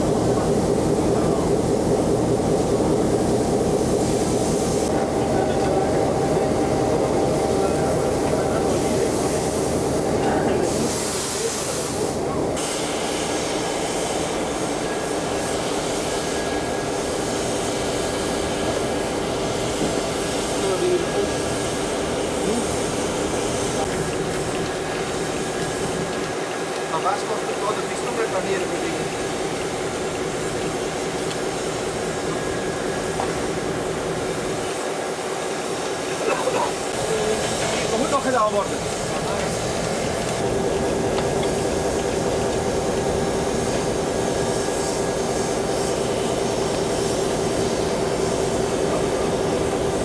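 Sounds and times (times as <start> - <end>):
locomotive steam rushing: 0.0 - 50.0.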